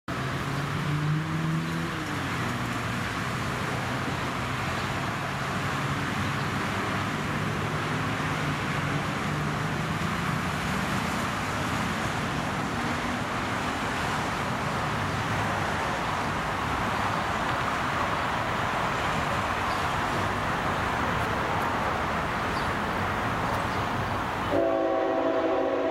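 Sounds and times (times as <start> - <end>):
locomotive engine drone: 0.1 - 25.9
train rumble and hiss: 0.2 - 25.9.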